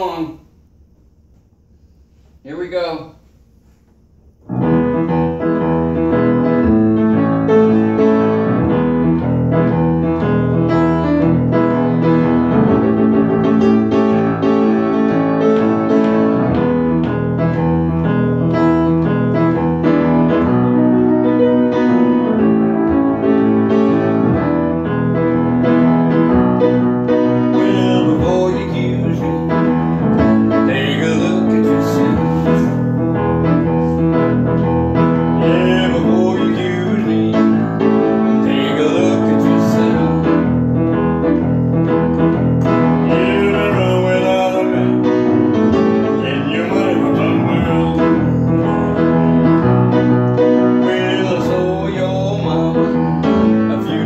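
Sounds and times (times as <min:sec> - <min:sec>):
piano playing blues: 0:04.4 - 0:54.0.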